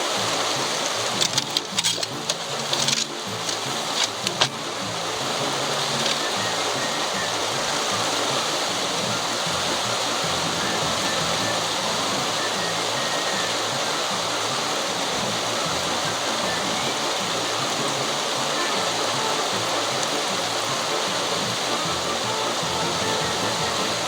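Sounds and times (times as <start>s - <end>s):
background music: 0.0s - 24.0s
steady rushing hiss: 0.0s - 24.0s.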